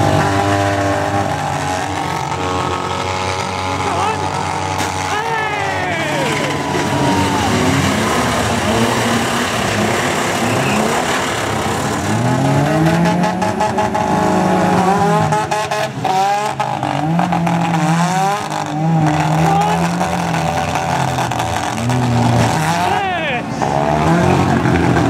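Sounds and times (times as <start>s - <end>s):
car engines revving hard: 0.0s - 25.0s.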